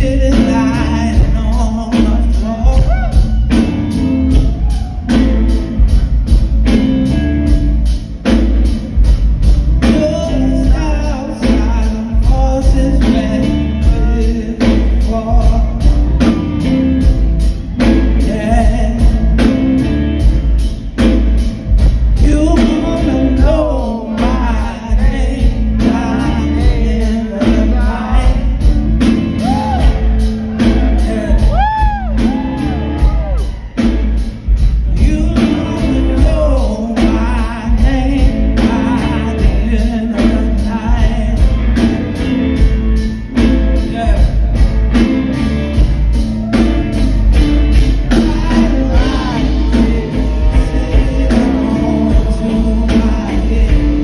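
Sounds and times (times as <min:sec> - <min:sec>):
man singing: 0:00.0 - 0:06.4, 0:09.8 - 0:17.1, 0:17.8 - 0:20.4, 0:21.0 - 0:45.1, 0:48.0 - 0:54.0
drum kit: 0:00.0 - 0:54.0
electric guitar: 0:00.0 - 0:54.0
heavy bass: 0:00.0 - 0:54.0.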